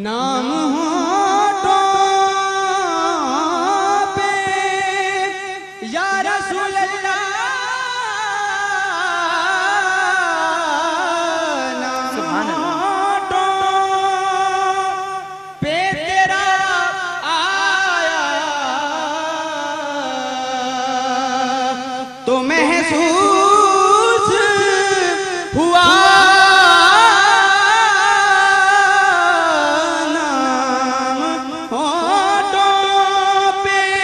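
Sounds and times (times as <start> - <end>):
man singing into a microphone: 0.0 - 34.0.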